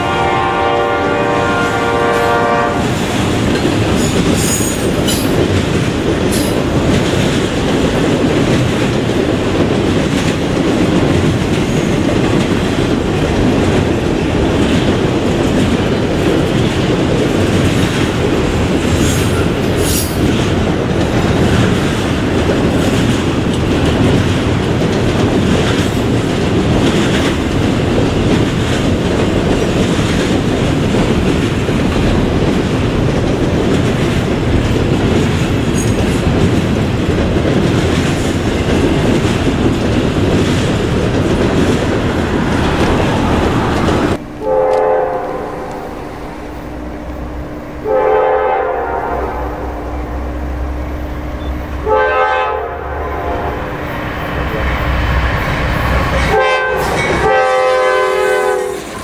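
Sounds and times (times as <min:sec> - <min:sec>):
clickety-clack over rail joints: 0:00.0 - 0:45.9, 0:53.3 - 0:59.0
freight train wheels rumbling: 0:00.0 - 0:59.0.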